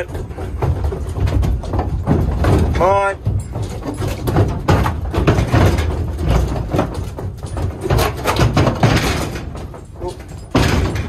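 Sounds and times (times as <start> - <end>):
hooves clattering on trailer floor: 0.0 - 11.0.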